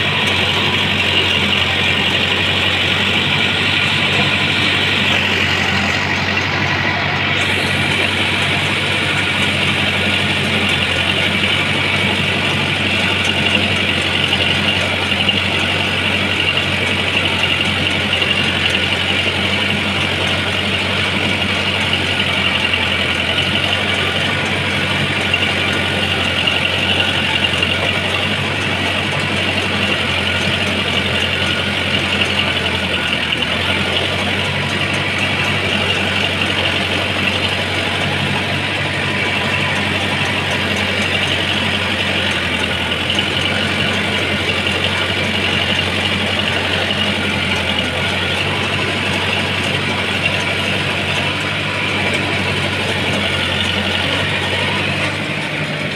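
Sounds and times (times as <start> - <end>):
truck engine idling: 0.0 - 55.9.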